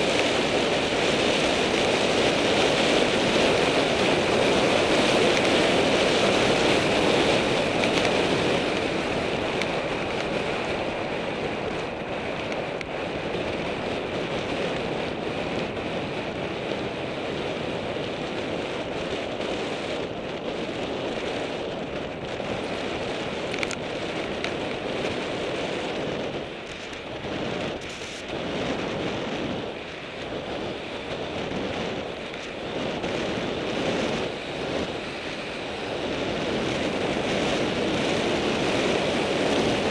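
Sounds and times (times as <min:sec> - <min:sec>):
bicycle rolling noise: 0:00.0 - 0:39.9
wind rushing over microphone: 0:00.0 - 0:39.9.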